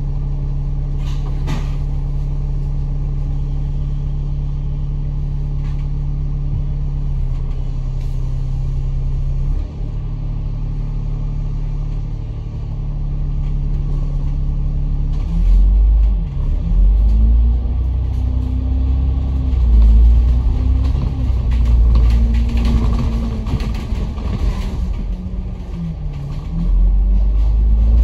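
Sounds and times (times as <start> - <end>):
bus engine droning: 0.0 - 28.0.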